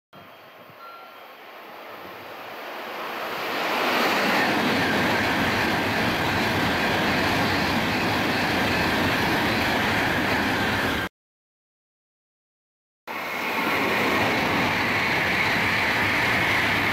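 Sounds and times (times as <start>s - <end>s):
high-speed train passing: 0.2s - 11.1s, 13.1s - 16.9s.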